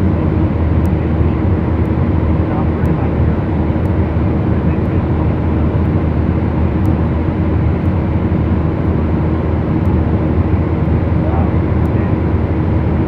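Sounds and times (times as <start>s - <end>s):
aircraft engines droning in cabin: 0.0s - 13.0s.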